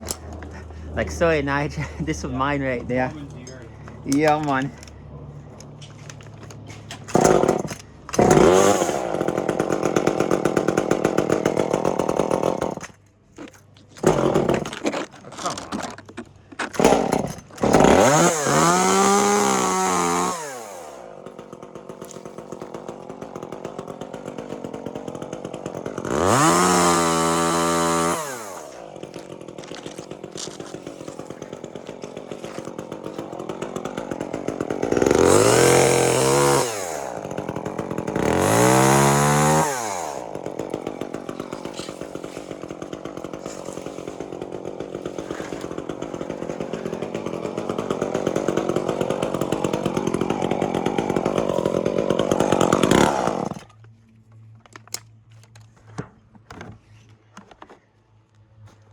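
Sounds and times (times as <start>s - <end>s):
chainsaw revving and idling: 0.0s - 53.8s.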